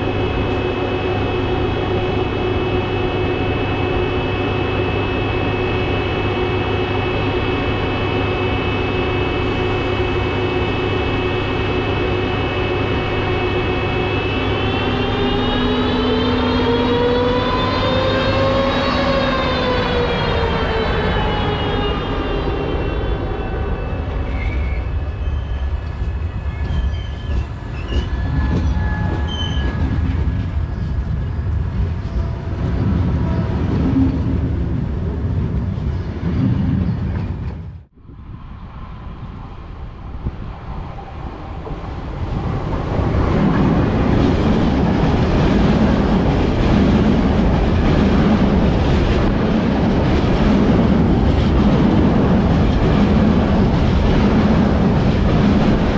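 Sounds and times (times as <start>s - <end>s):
train passing with whine: 0.0s - 55.9s
train wheel and rail noise: 0.0s - 55.9s.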